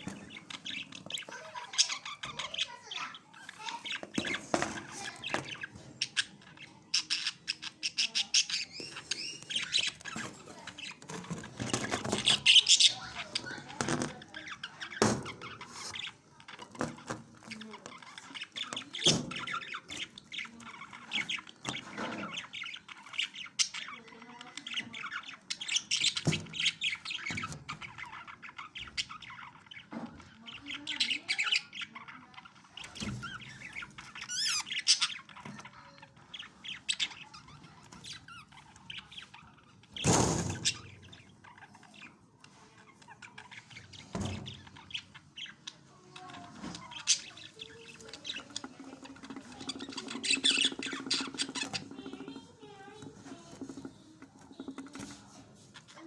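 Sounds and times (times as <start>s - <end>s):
budgerigar chicks squawking: 0.0s - 56.0s.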